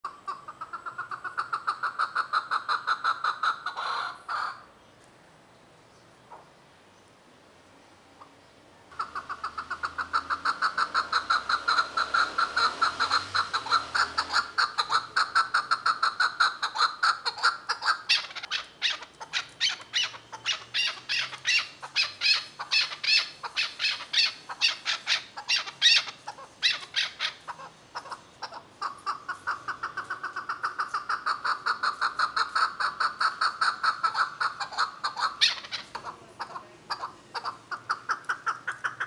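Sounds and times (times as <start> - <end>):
partridge calling: 0.0 - 4.7, 8.9 - 39.0.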